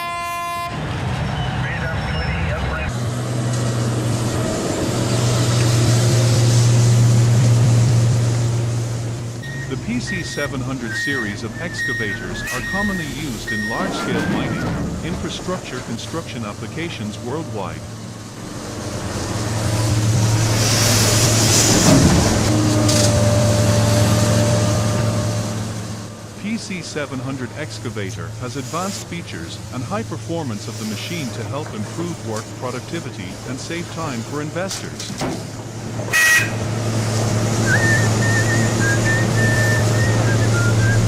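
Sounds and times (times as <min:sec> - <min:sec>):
excavator diesel engine drone: 0:00.0 - 0:41.0.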